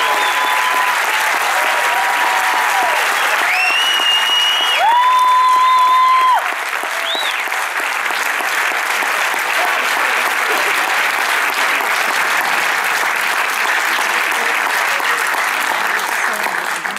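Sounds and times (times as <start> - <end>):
audience applauding: 0.0 - 16.9.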